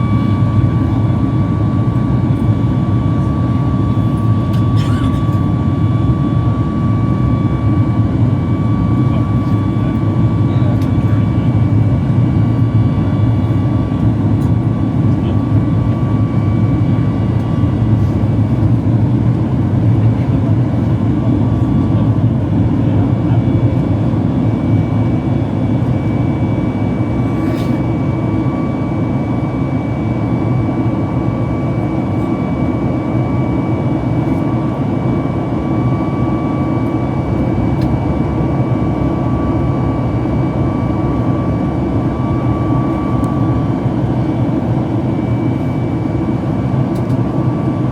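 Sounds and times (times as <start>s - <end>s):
jet engine roar in cabin: 0.0s - 47.9s.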